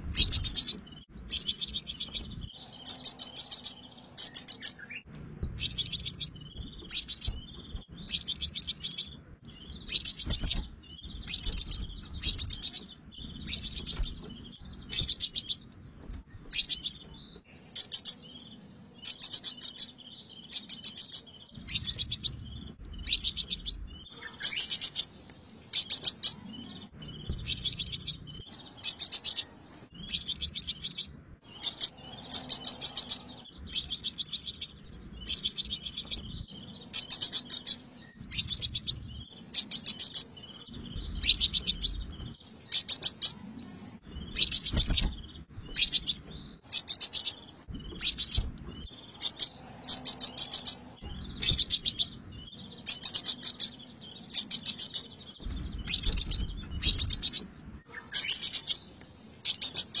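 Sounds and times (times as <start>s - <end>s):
bird chips and trills: 0.0s - 60.0s.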